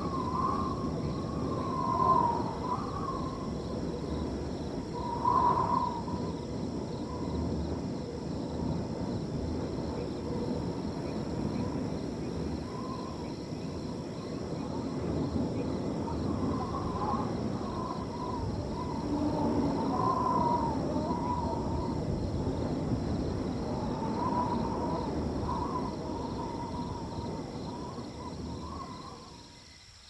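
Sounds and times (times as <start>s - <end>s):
crickets trilling: 0.0s - 30.0s
wind blowing through field: 0.0s - 30.0s.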